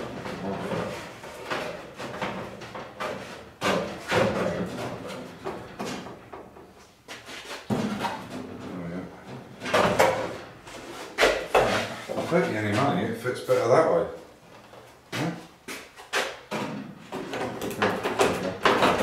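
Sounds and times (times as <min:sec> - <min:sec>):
fiberglass panel knocking and scraping: 0:00.0 - 0:12.9, 0:16.1 - 0:19.0.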